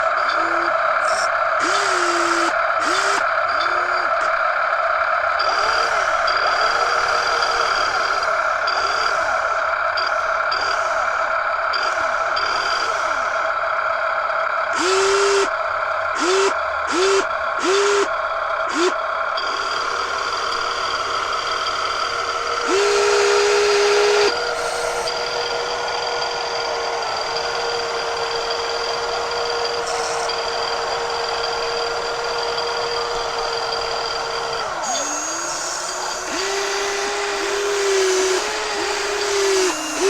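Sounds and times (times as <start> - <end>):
toy truck motors whining: 0.0 - 40.0.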